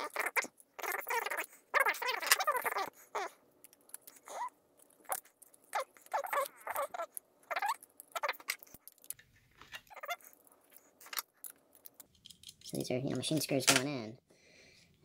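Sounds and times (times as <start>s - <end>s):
plastic parts creaking and clicking: 0.0s - 14.0s.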